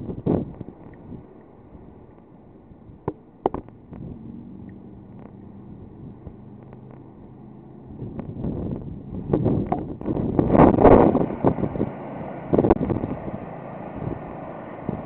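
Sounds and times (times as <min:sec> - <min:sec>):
motorboat engine humming: 0:00.0 - 0:15.0.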